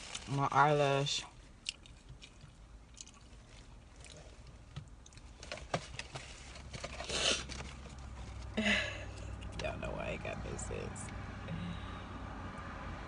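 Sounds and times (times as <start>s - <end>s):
low rumble inside a car: 0.0s - 13.0s.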